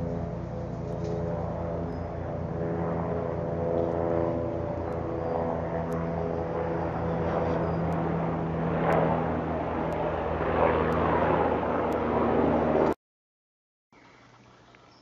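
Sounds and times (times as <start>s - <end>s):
engine drone with fast pulsing: 0.0s - 13.0s.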